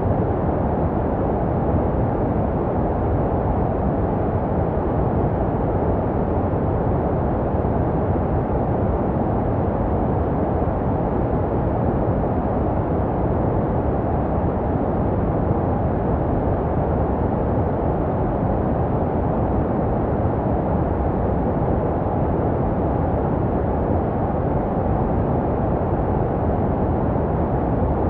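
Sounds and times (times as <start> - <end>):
deep muffled white noise: 0.0 - 28.0.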